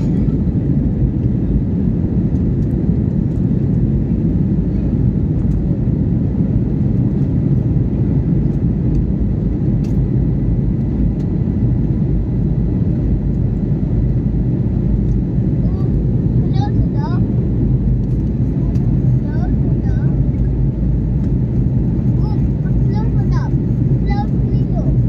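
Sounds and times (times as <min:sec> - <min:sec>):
jet cabin engine drone: 0:00.0 - 0:25.0.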